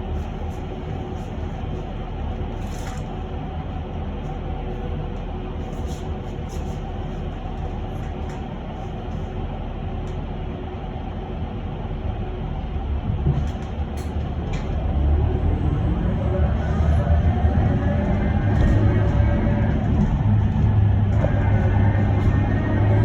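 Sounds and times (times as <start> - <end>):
bus cabin rumble: 0.0 - 23.0.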